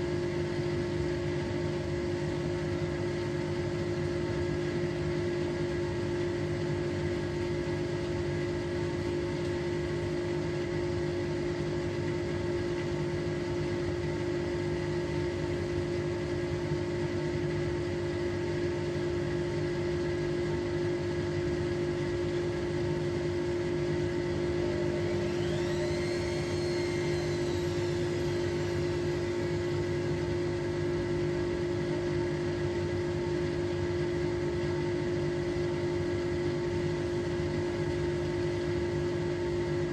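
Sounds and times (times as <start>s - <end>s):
washing machine motor hum: 0.0s - 39.9s
washing machine whine: 0.0s - 39.9s.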